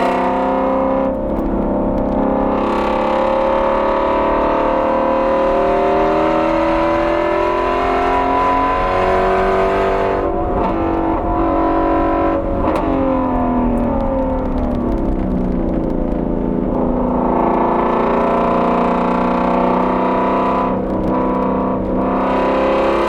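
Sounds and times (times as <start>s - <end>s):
car engine pulling hard: 0.0s - 23.0s.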